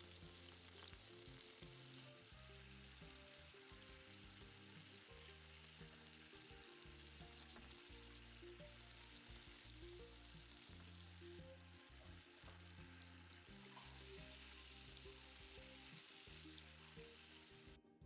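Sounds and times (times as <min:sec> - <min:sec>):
chicken sizzling in oil: 0:00.0 - 0:17.8
soft background music: 0:00.0 - 0:18.0.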